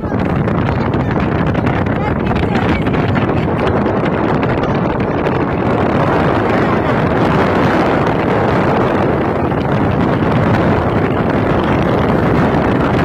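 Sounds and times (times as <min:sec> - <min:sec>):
vehicle running noise: 0:00.0 - 0:13.0
wind buffeting microphone: 0:00.0 - 0:13.0.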